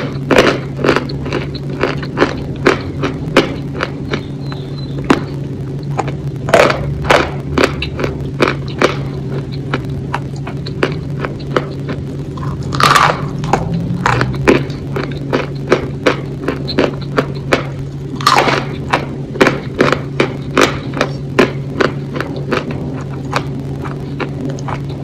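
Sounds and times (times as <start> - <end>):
crunchy chewing and biting: 0.0 - 25.0
steady low hum: 0.0 - 25.0.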